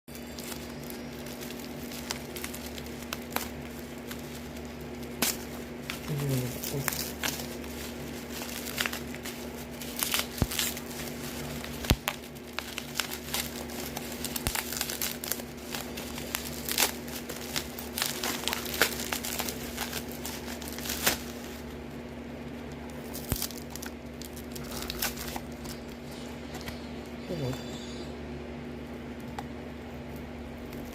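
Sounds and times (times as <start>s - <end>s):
plastic packaging crinkling and tearing: 0.1s - 27.2s.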